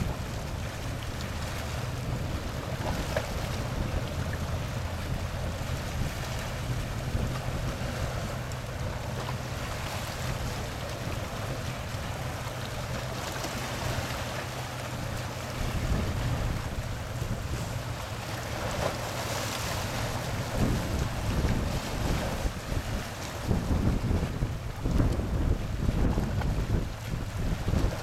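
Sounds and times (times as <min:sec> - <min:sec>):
wind buffeting microphone: 0:00.0 - 0:14.2, 0:14.8 - 0:28.0
water rushing along hull: 0:00.0 - 0:28.0.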